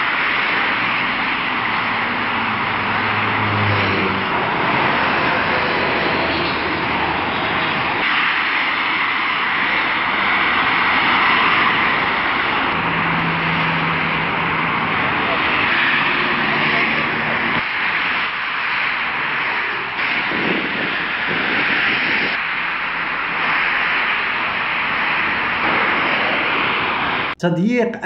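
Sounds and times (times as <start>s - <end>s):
distant engines rushing: 0.0s - 27.4s.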